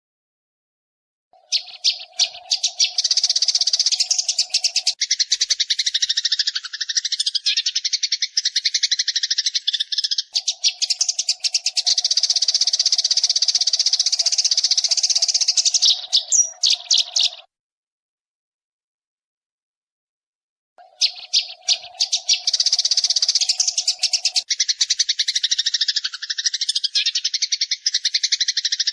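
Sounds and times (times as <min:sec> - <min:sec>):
sparrows chirping rapidly: 0:01.4 - 0:17.5, 0:20.8 - 0:28.9.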